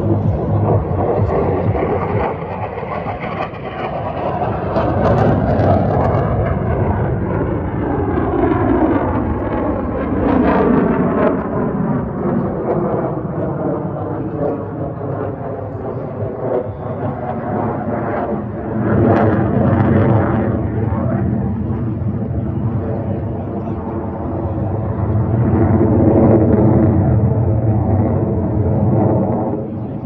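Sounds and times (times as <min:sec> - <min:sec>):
fighter jet engine roar: 0:00.0 - 0:30.0.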